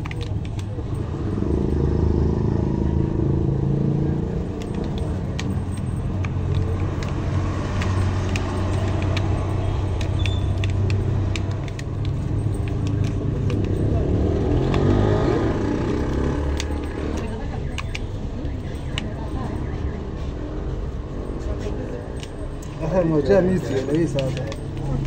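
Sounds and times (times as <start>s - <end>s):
low rumble of traffic: 0.0s - 25.0s.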